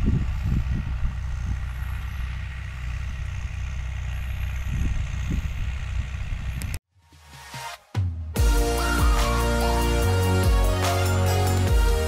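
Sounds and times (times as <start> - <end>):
tractor diesel engine running: 0.0 - 6.8, 8.4 - 12.0.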